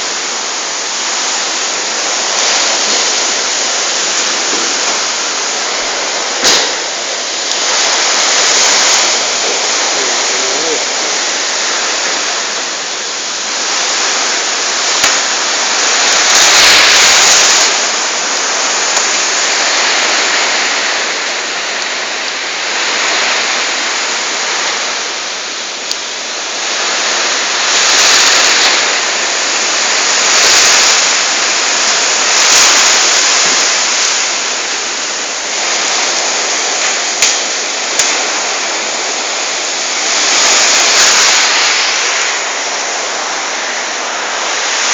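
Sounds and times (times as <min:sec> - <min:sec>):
storm wind gusting: 0:00.0 - 0:44.9.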